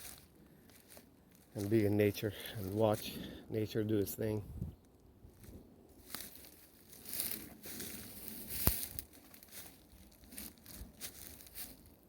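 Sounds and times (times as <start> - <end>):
footsteps crunching on dry ground: 0.0 - 12.0.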